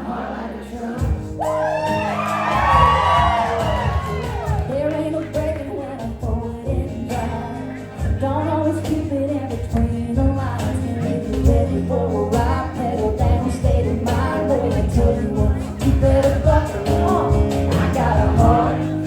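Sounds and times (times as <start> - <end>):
live country band playing: 0.0 - 19.0
person singing: 0.0 - 19.0.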